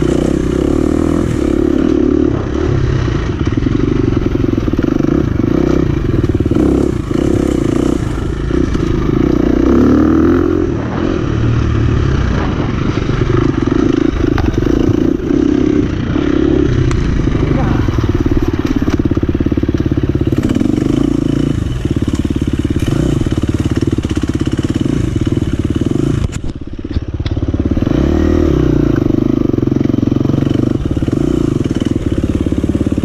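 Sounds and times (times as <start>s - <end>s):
dirt bike engine revving: 0.0s - 26.5s, 27.4s - 33.0s.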